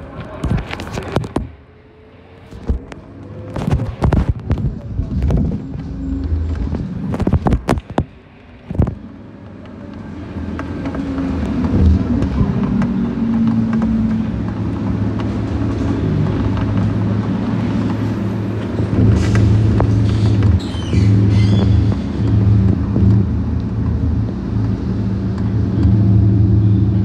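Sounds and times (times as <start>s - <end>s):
bus diesel engine droning: 1.6s - 7.6s, 8.2s - 27.0s.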